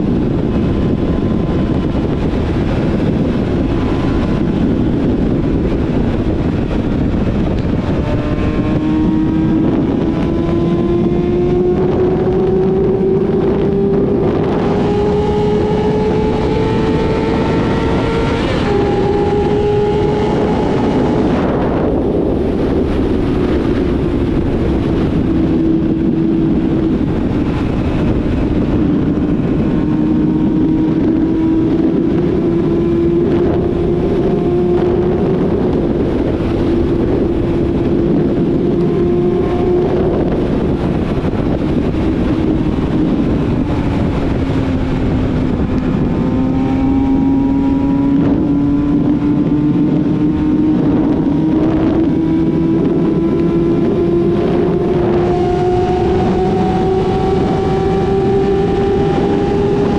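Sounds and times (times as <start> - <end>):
motorcycle engine: 0.0 - 59.9
wind rushing past microphone: 0.0 - 59.9.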